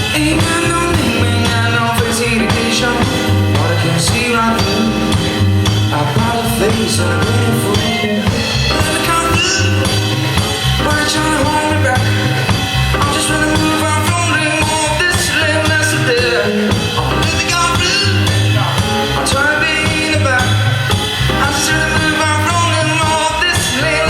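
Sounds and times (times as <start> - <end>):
drum kit beat: 0.0 - 24.0
live pop band playing: 0.0 - 24.0.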